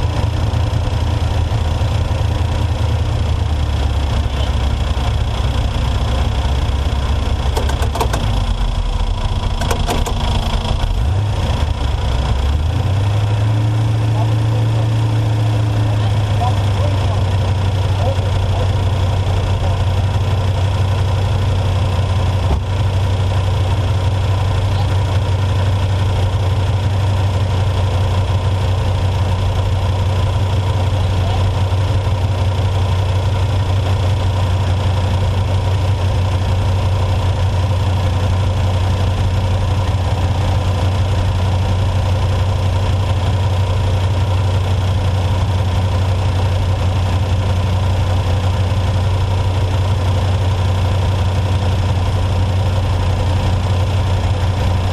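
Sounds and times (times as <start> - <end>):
truck engine droning: 0.0 - 54.9.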